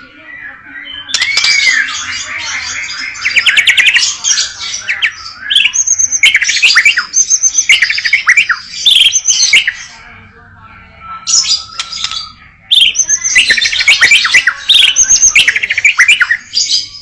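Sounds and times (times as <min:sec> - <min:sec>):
songbird singing varied song: 0:00.1 - 0:10.0, 0:11.1 - 0:17.0.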